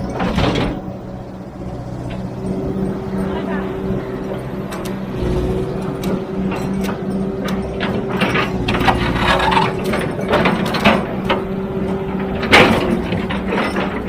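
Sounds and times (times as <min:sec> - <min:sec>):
metal and rock clanking: 0:00.0 - 0:01.4, 0:02.0 - 0:14.0
constant whine: 0:00.0 - 0:14.0
heavy machine engine hum: 0:00.0 - 0:14.0.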